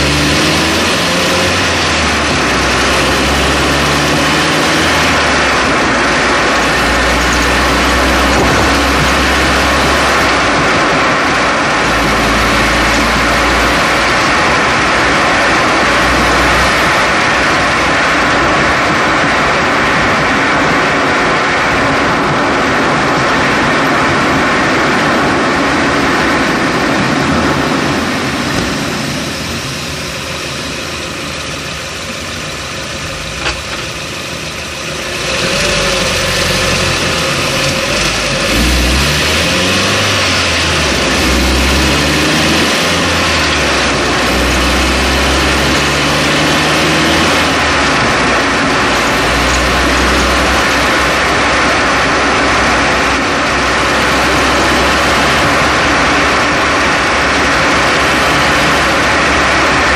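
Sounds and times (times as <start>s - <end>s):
car engine: 0.0s - 59.9s
road and tyre noise: 0.0s - 59.9s.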